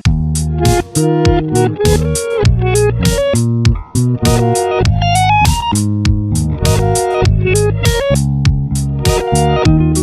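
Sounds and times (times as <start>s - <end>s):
guitar and bass music: 0.0s - 10.0s
steady drum beat: 0.0s - 10.0s.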